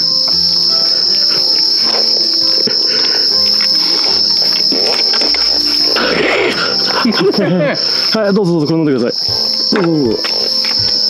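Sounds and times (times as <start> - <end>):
insects trilling: 0.0 - 11.0
soft background music: 0.0 - 11.0.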